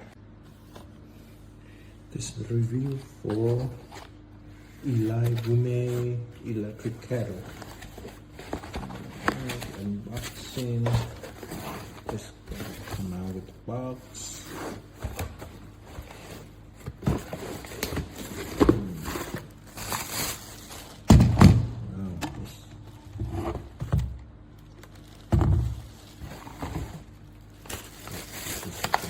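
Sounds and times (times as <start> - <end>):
cardboard and packing rustling: 2.6 - 21.7, 22.4 - 29.0.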